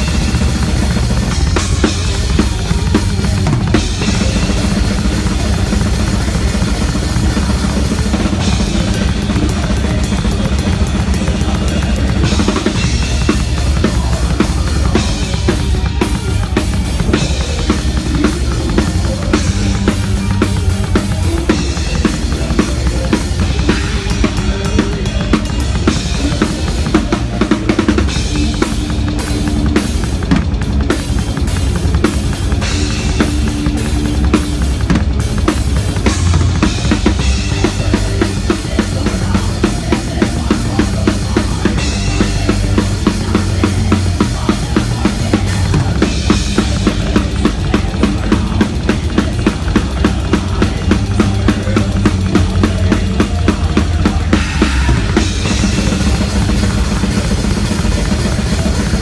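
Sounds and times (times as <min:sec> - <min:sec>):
band held notes: 0:00.0 - 0:59.0.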